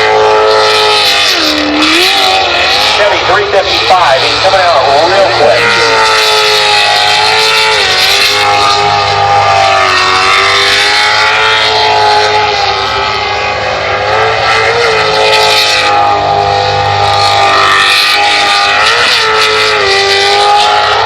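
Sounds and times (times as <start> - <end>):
boat engine revving: 0.0 - 21.0.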